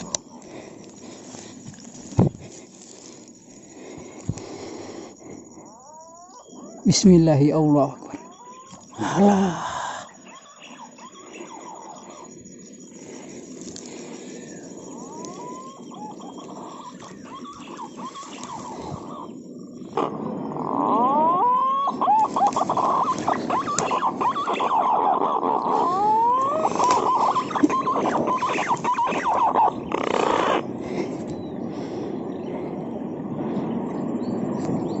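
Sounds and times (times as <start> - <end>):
birds whistling: 0.0 - 35.0.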